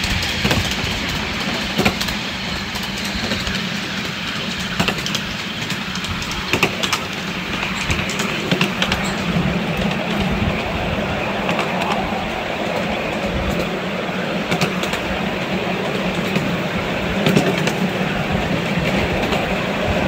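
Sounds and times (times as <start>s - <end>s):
small train wheels rumbling on rails: 0.0s - 20.0s
wheels clicking over rail joints: 0.0s - 20.0s.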